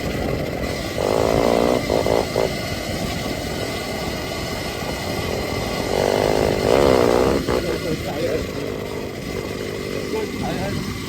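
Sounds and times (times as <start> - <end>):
electric motor hum: 0.0 - 11.0
wind and ground rumble: 0.0 - 11.0.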